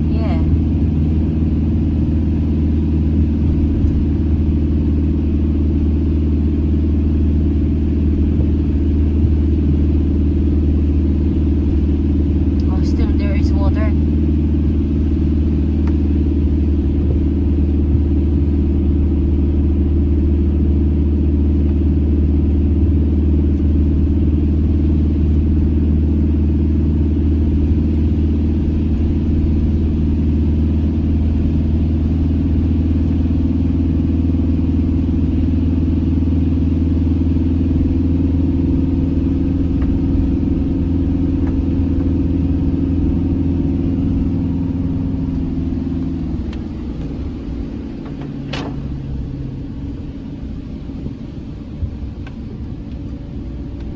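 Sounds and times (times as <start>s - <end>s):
engine and road noise drone: 0.0s - 53.9s
steady hum: 0.0s - 53.9s.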